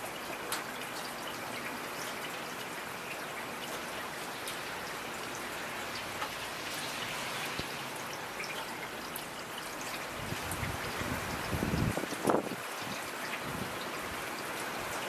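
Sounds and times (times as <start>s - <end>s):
raindrops ticking close by: 0.0s - 15.0s
steady rain falling: 0.0s - 15.0s.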